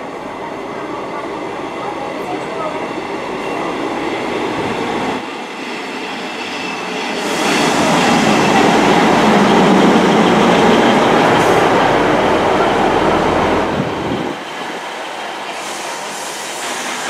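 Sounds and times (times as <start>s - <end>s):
diesel train engines and wheels: 0.0s - 17.0s.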